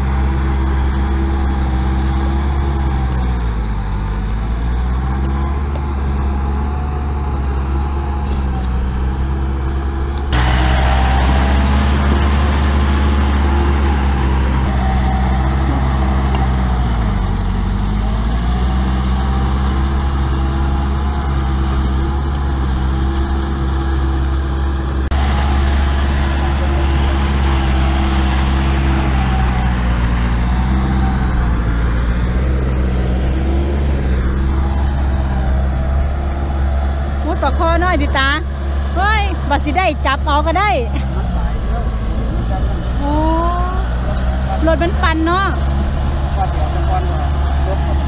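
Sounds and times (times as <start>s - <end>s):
diesel engine running under load: 0.0s - 48.0s.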